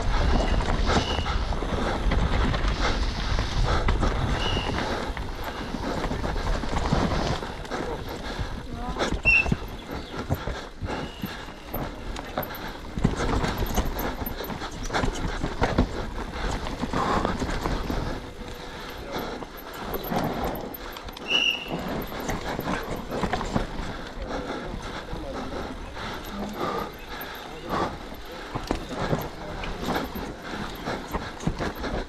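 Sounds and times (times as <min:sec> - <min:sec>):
tyres crunching on dirt: 0:00.4 - 0:32.0
chain and suspension clatter: 0:04.0 - 0:32.0.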